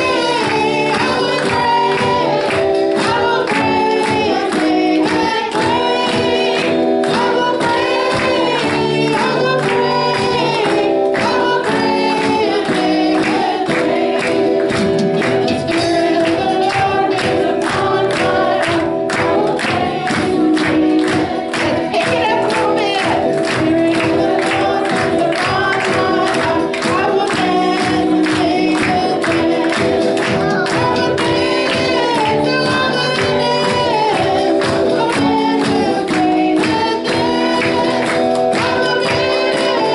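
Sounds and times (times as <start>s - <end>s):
group of voices singing: 0.0s - 39.9s
percussion beat with tambourine: 0.0s - 39.9s.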